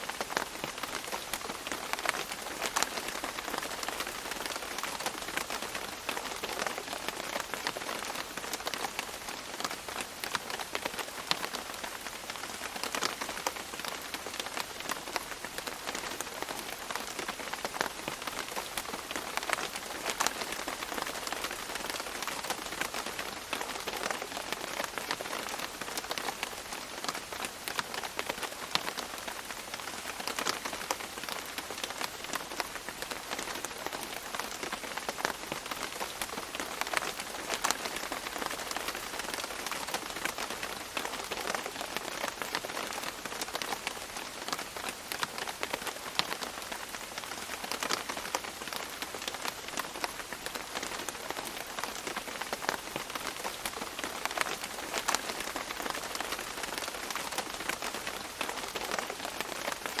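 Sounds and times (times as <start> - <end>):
rain falling on leaves: 0.0 - 60.0.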